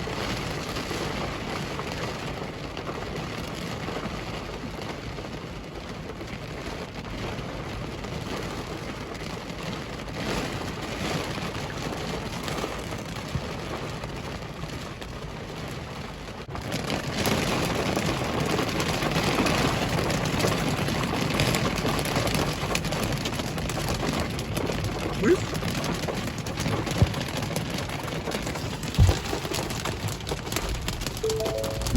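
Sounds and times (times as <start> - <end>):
heavy rain pouring: 5.5 - 31.9.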